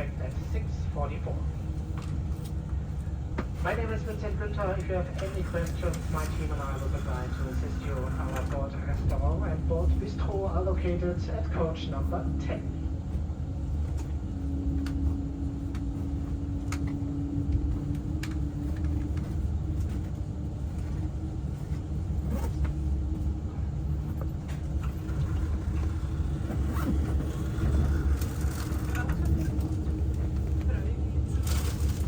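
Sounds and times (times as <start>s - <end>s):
train cabin low rumble: 0.0s - 32.0s.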